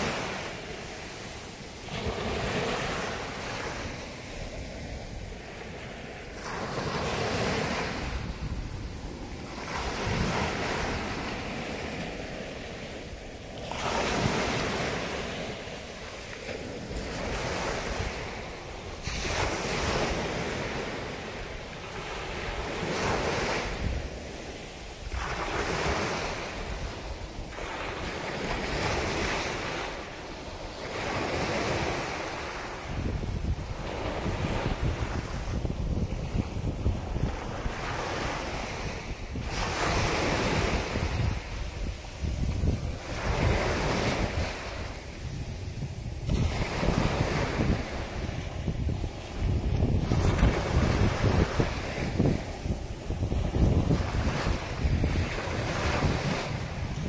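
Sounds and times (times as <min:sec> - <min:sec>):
surf breaking on a beach: 0:00.0 - 0:57.0.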